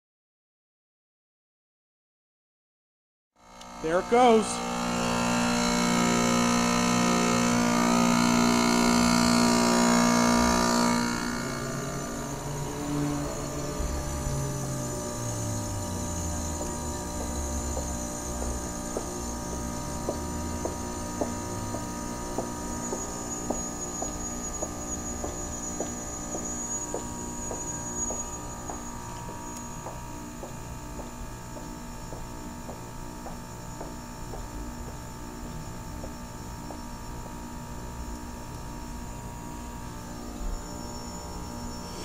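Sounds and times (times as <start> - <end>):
heat pump humming: 3.4 - 42.0.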